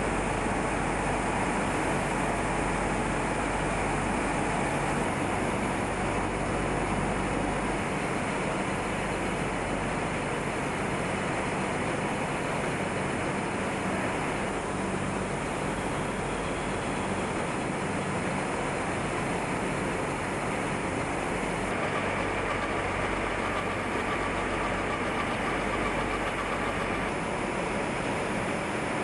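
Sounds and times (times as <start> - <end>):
faint steady whine: 0.0 - 29.0
spinning machinery running: 0.0 - 29.0.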